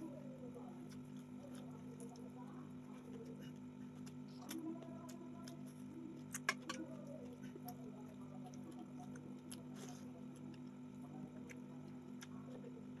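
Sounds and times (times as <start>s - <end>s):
person chewing food: 0.8s - 13.0s.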